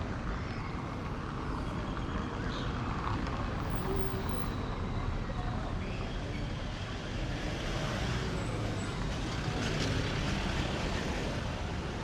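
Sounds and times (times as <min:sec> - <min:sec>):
vehicles passing on street: 0:00.0 - 0:12.0.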